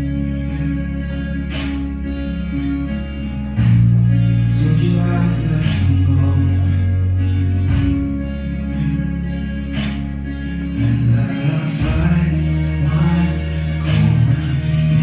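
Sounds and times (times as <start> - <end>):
plucked guitar music: 0.0 - 15.0
steady bass line: 0.0 - 15.0.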